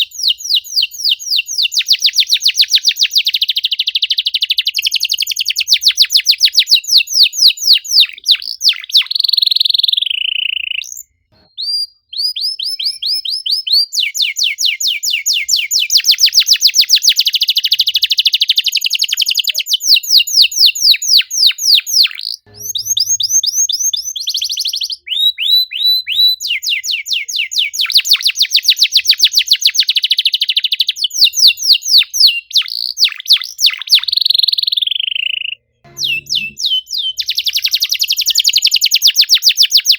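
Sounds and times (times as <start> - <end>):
canary singing trills: 6.9 - 39.9.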